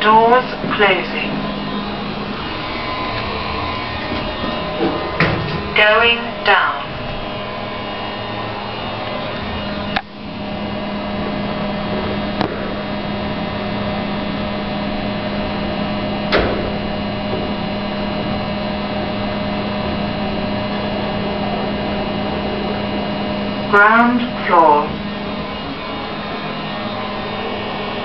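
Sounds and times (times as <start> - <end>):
lift car humming: 0.0 - 28.0.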